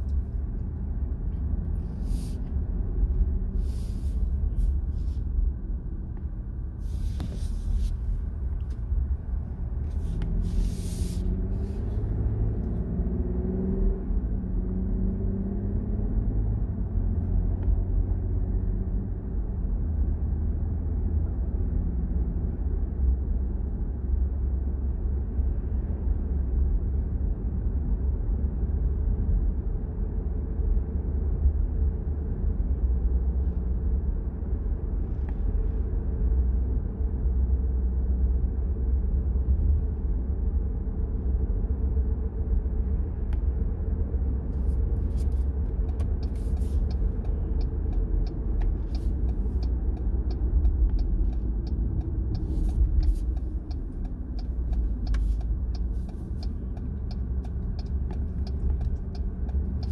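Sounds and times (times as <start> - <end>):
car driving at road speed: 0.0 - 59.9.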